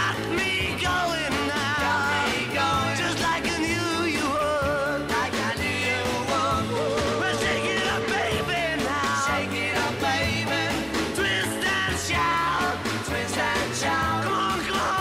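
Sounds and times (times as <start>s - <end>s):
steady beat and bass: 0.0s - 15.0s.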